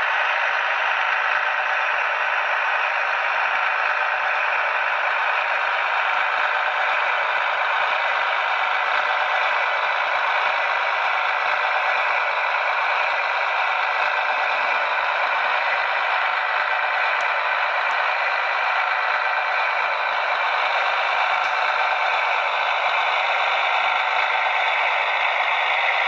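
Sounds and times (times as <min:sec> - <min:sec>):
diesel engines through small speaker: 0:00.0 - 0:26.0.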